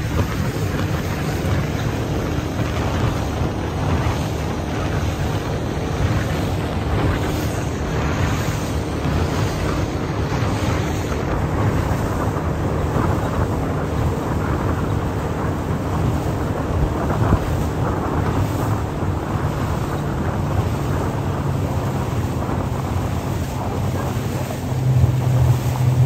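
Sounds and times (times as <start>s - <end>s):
boat motor running: 0.0s - 26.0s
water rushing past hull: 0.0s - 26.0s
wind buffeting microphone: 0.0s - 26.0s.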